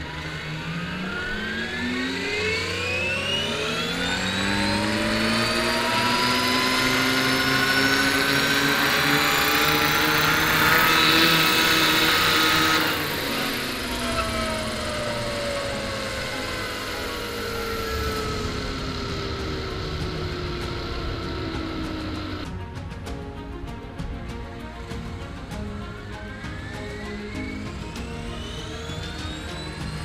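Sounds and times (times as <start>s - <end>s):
helicopter rotor whine: 0.0s - 22.9s, 24.0s - 30.0s.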